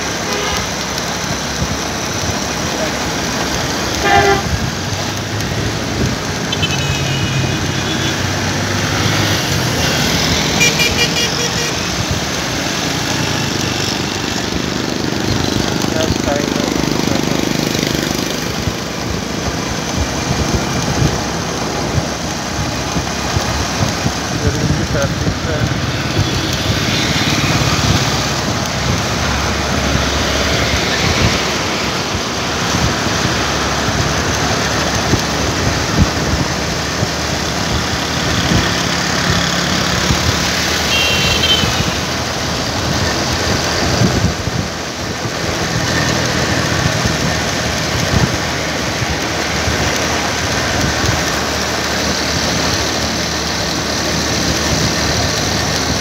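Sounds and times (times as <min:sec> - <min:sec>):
road noise: 0:00.0 - 0:56.0
vehicle engine running: 0:00.0 - 0:56.0
air rushing over microphone: 0:07.4 - 0:56.0.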